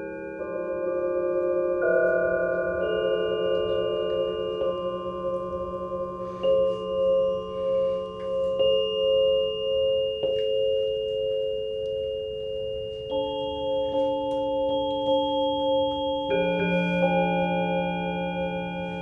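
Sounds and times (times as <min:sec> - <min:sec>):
held electronic chord tones: 0:00.0 - 0:19.0.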